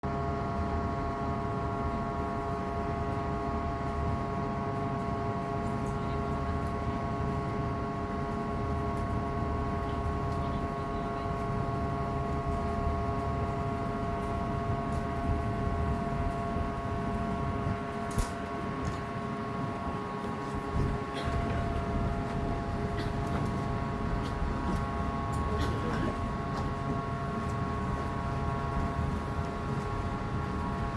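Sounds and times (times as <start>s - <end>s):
machinery drone: 1.3s - 30.9s.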